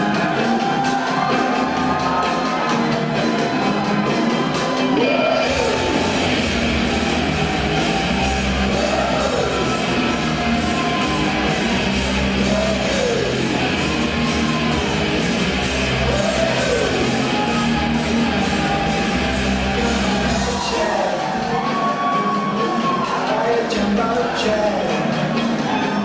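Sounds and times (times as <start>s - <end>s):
loud rock music with guitar: 0.0s - 26.0s.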